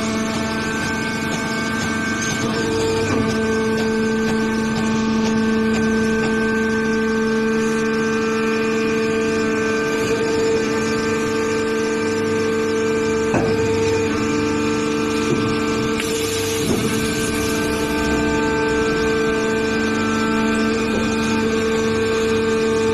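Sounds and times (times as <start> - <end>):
hydraulic power unit humming: 0.0 - 22.9.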